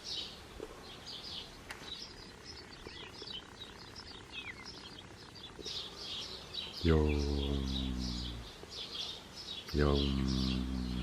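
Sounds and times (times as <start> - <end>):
background hiss: 0.0 - 11.0
small birds chirping: 0.0 - 11.0.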